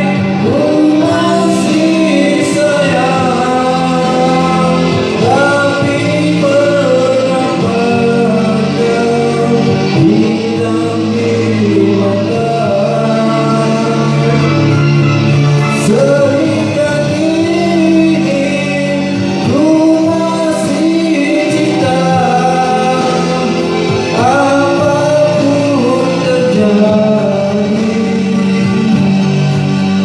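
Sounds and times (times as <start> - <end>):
backing music track: 0.0 - 30.0
person singing slow melody: 0.0 - 30.0.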